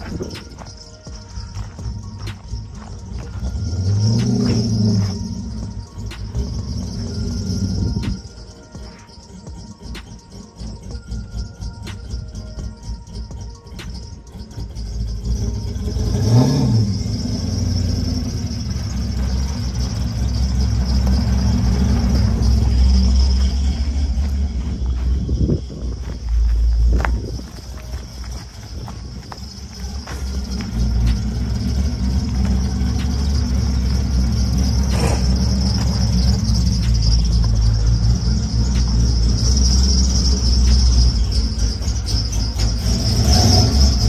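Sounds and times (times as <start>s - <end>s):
car engine running: 0.0s - 44.0s
machinery drone: 0.0s - 44.0s.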